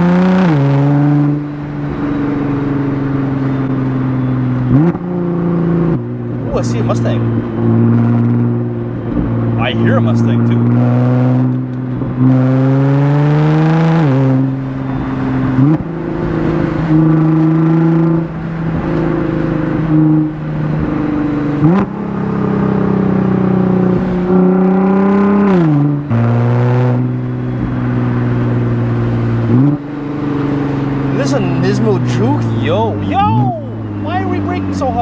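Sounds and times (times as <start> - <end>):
car engine under load: 0.0 - 35.0.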